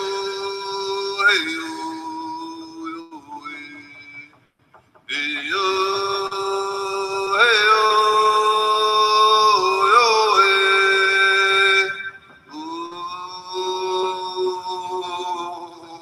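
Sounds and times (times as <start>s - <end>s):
person singing long notes: 0.0s - 4.4s, 5.1s - 16.0s.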